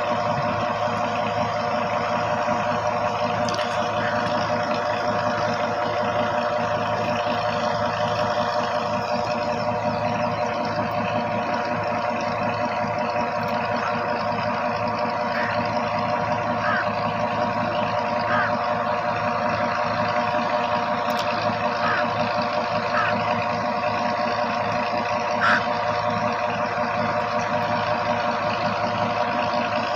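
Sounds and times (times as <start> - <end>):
engine idling: 0.0 - 29.9.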